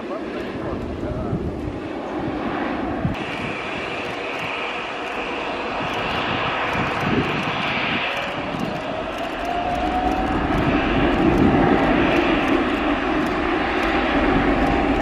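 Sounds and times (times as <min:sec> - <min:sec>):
high engine whine: 0:00.0 - 0:15.0
jet engines running: 0:00.0 - 0:15.0.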